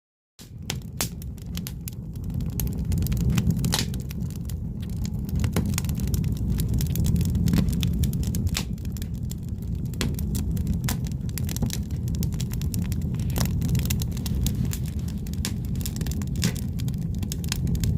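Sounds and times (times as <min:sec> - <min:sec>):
firewood crackling and popping: 0:00.4 - 0:17.9
low rumble of fire: 0:00.4 - 0:17.9.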